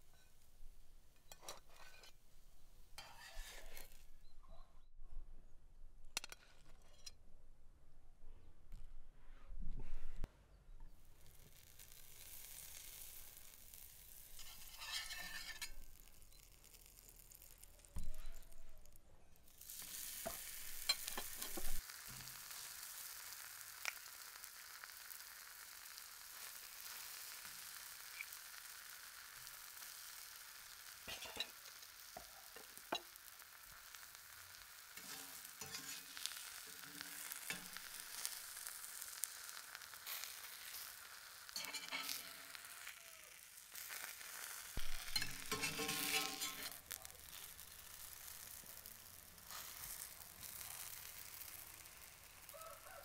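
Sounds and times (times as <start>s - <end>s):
pancakes sizzling in a pan: 1.2s - 2.2s, 2.9s - 4.1s, 11.0s - 53.0s.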